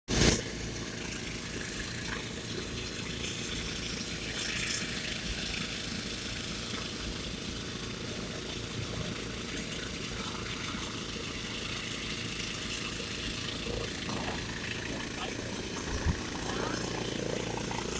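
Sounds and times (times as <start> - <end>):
diesel engine rumbling: 1.0 - 17.9.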